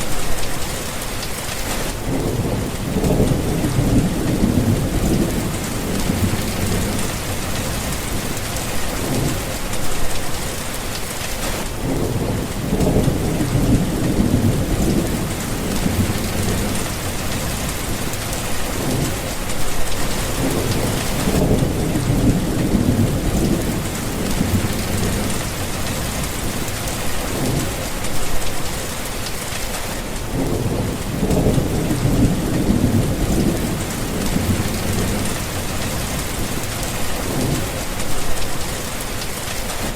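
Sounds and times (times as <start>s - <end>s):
heavy rain hissing: 0.0s - 39.9s
thunder rumbling: 0.0s - 39.9s.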